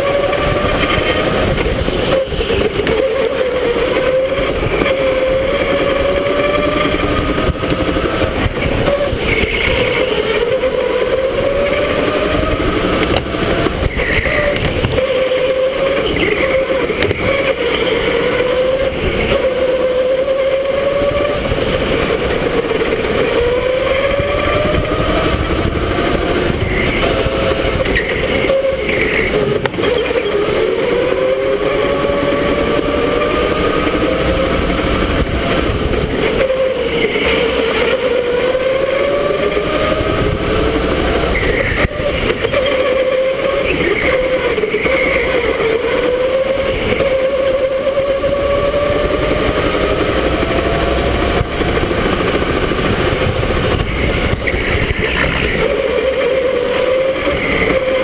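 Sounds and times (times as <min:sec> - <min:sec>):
electric go-kart motor whining: 0:00.0 - 0:58.0.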